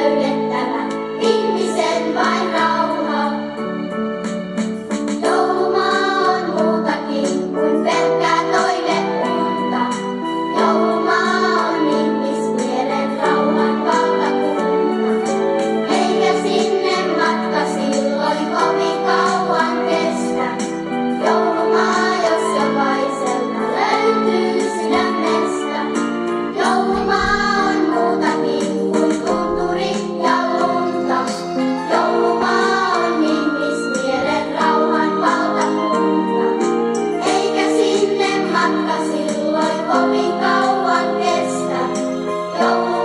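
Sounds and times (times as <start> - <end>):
instrumental backing: 0.0 - 43.0.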